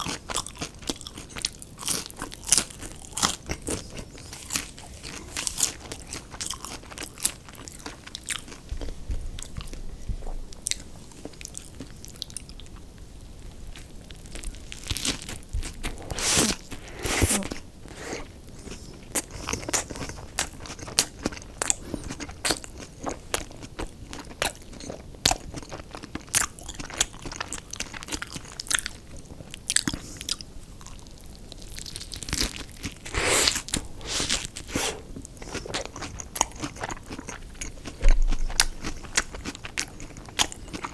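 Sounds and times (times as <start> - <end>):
crunchy chewing of fried food: 0.0 - 40.9.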